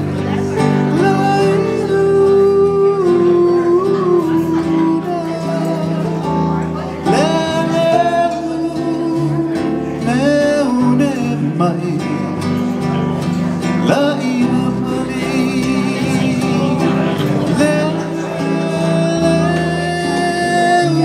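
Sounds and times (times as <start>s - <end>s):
keyboard playing: 0.0s - 21.0s
man singing: 0.0s - 21.0s
strummed acoustic guitar: 0.0s - 21.0s.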